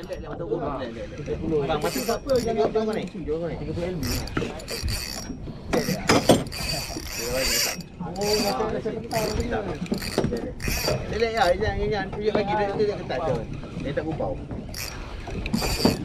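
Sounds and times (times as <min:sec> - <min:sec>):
fishing reel cranking: 0:00.0 - 0:16.0.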